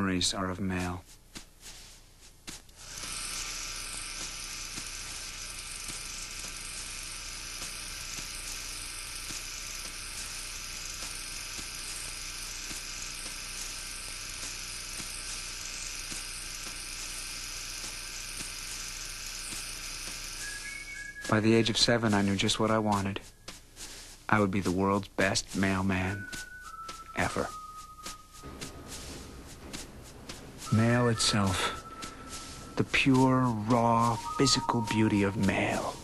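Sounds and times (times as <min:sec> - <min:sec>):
steady whirring hiss: 0:00.0 - 0:36.0.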